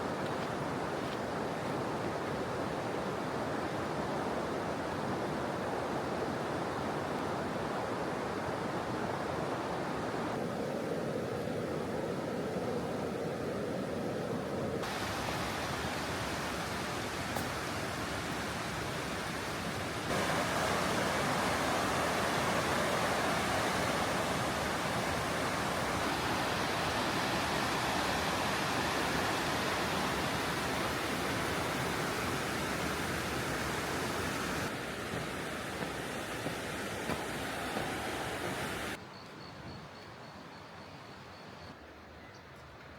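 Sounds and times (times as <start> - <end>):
rain: 0.0 - 39.0
river flowing: 0.0 - 39.0.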